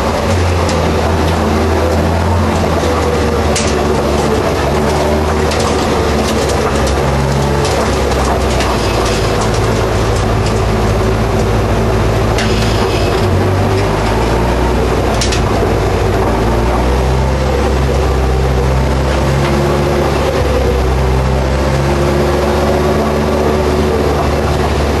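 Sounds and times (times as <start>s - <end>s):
race car engine running: 0.0s - 25.0s.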